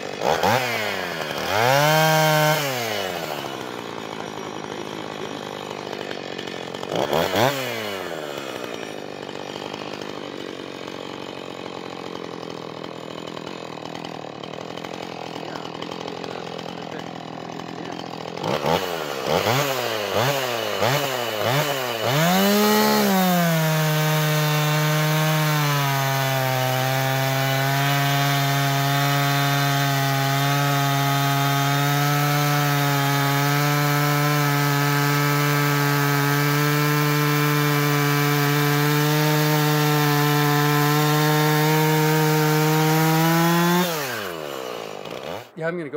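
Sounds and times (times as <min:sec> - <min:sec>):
chainsaw revving and cutting log: 0:00.0 - 0:45.9.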